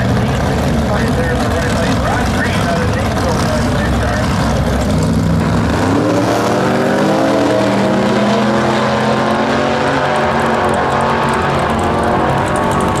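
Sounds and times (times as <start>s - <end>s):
drag racing engines accelerating: 0.0s - 13.0s.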